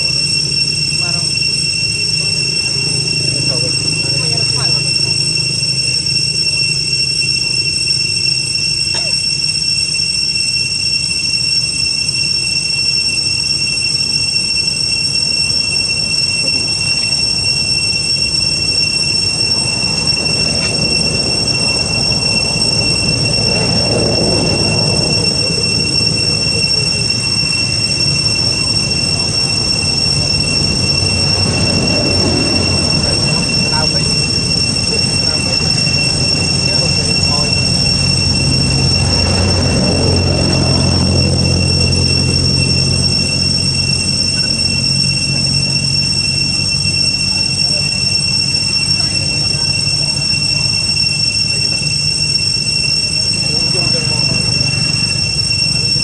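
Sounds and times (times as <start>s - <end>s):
high-pitched whine: 0.0s - 56.0s.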